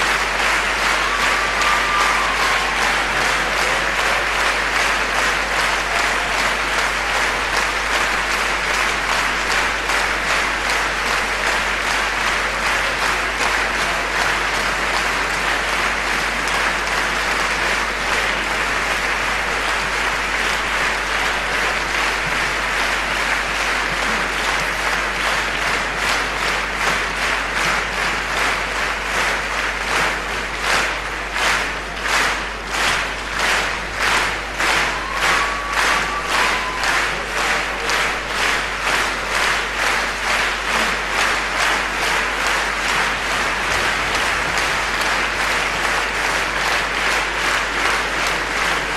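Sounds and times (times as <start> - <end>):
audience applauding: 0.0 - 48.9
rhythmic unison clapping: 0.0 - 48.9.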